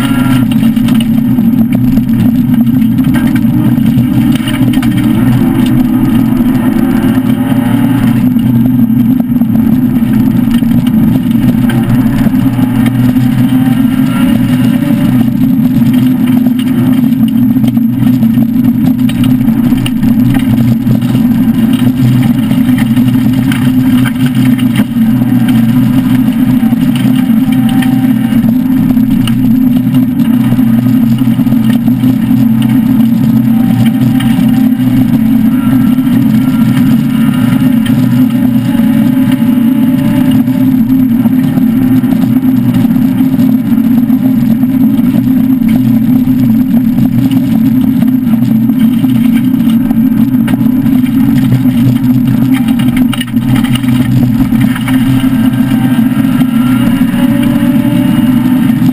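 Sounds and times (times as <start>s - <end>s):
car engine running hard: 0.0s - 58.9s.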